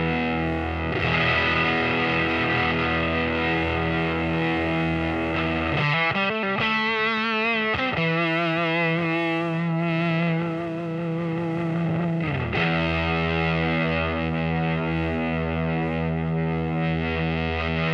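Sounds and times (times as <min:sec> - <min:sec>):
distorted electric guitar: 0:00.0 - 0:17.9.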